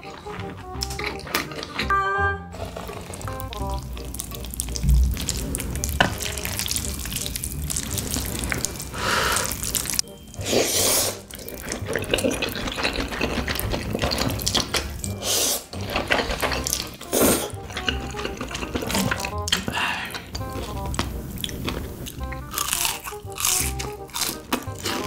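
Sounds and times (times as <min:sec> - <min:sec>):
chewing: 0:00.0 - 0:01.9, 0:02.6 - 0:25.0
noodle slurping: 0:00.0 - 0:01.9, 0:02.5 - 0:25.0.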